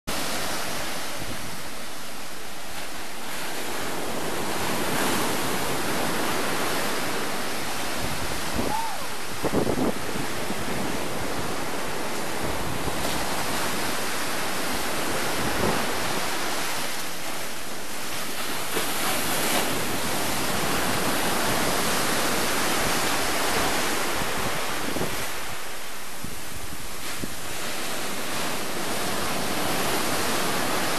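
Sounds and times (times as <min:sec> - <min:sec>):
waves breaking on beach: 0:00.1 - 0:30.9.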